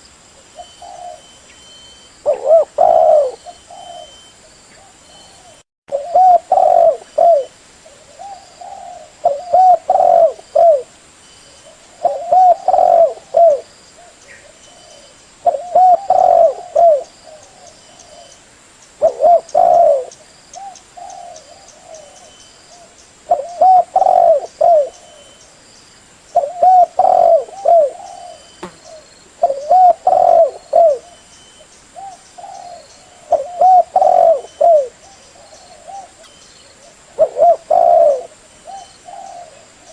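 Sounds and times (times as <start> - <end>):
small birds chirping: 0.0 - 39.9
dove cooing: 0.6 - 1.4, 2.2 - 10.9, 11.6 - 18.4, 19.0 - 25.4, 26.4 - 31.2, 32.0 - 39.9.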